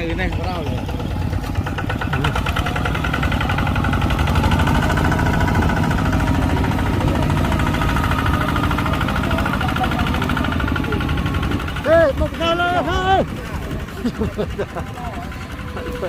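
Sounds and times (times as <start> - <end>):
diesel engine of earthmoving machine: 0.0 - 16.0.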